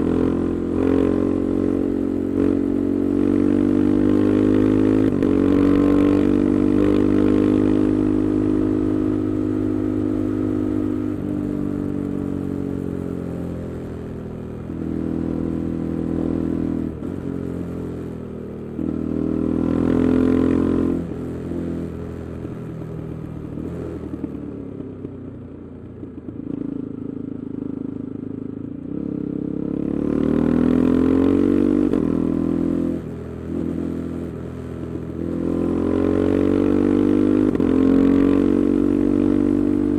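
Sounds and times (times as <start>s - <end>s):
motorcycle engine revving: 0.0s - 25.3s, 26.1s - 39.9s.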